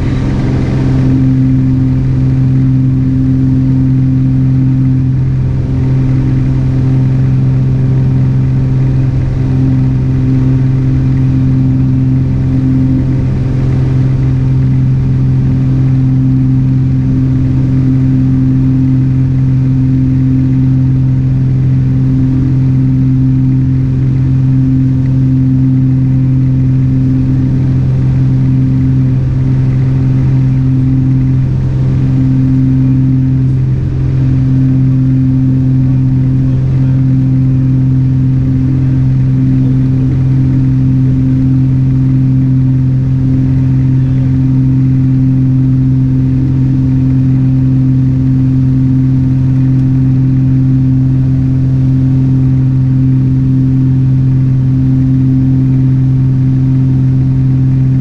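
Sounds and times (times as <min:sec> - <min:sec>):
aircraft engine and propeller droning: 0:00.0 - 0:58.0.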